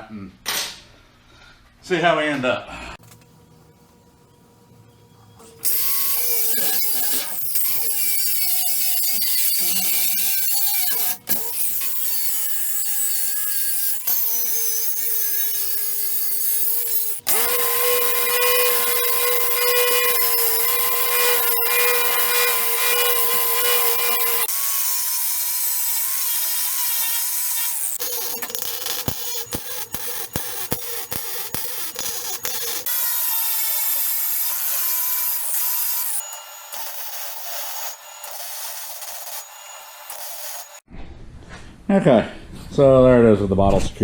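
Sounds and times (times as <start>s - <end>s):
angle grinder grinding steel: 5.6s - 40.9s.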